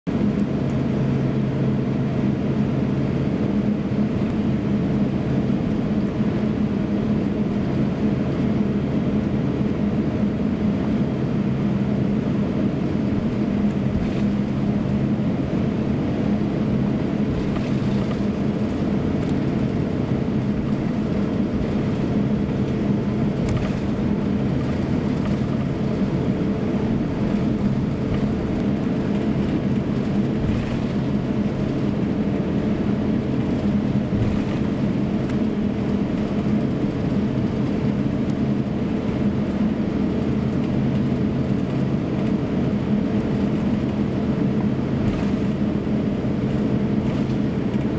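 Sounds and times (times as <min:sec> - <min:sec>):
airliner engines droning: 0:00.1 - 0:47.9.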